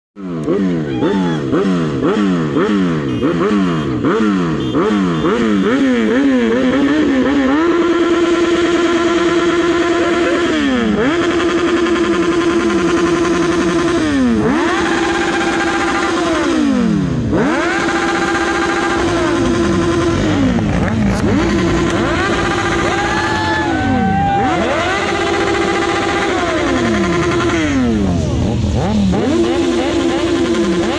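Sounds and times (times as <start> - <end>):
motorcycle engine revving: 0.2 - 30.9.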